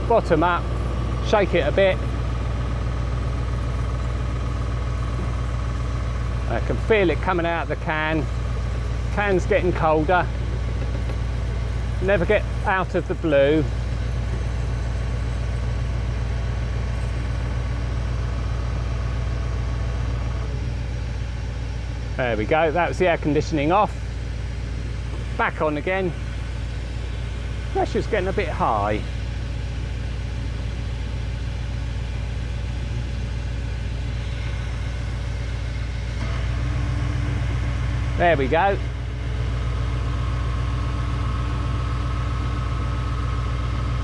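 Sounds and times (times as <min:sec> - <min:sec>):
air-conditioning compressor running: 0:00.0 - 0:44.0
car engine idling: 0:00.0 - 0:44.0.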